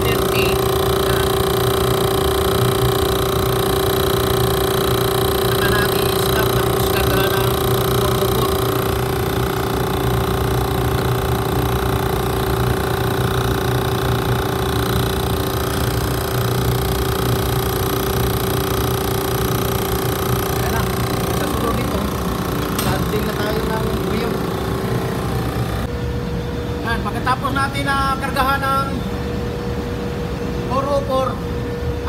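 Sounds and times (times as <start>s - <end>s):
vacuum pump humming: 0.0s - 32.0s.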